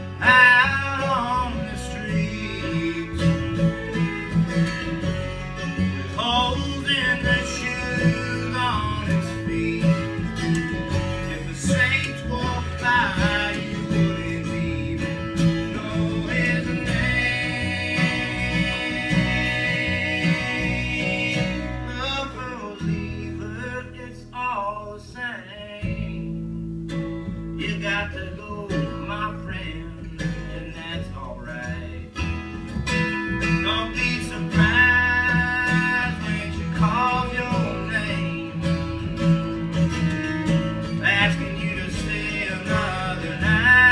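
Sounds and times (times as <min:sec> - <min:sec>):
acoustic guitar: 0:00.0 - 0:43.9
country-folk string band playing: 0:00.0 - 0:43.9.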